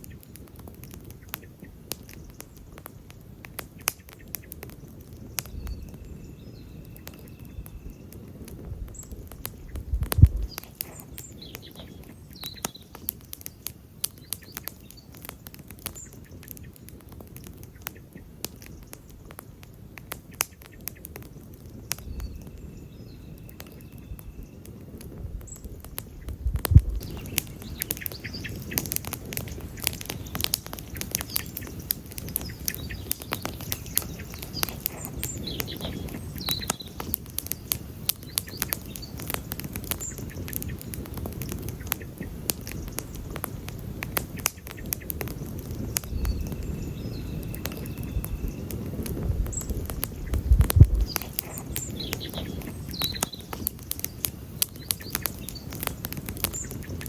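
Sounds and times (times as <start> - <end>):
campfire crackling: 0.0 - 57.0
low rumble of flames: 0.0 - 57.0.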